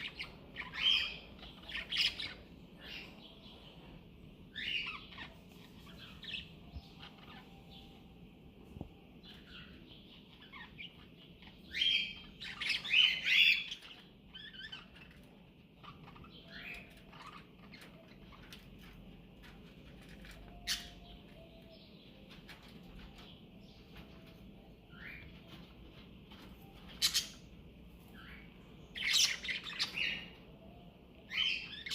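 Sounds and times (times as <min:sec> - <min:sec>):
cockatiel chirping and calling: 0:00.0 - 0:03.8, 0:04.5 - 0:08.0, 0:09.2 - 0:31.9
background bird chirps: 0:00.0 - 0:31.9.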